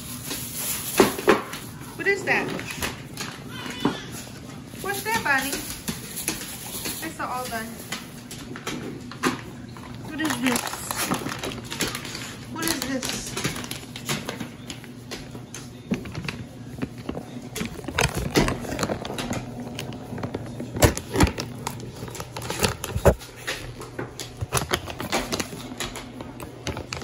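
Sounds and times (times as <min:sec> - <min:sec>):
packaging clicks and crinkles: 0:02.4 - 0:27.0.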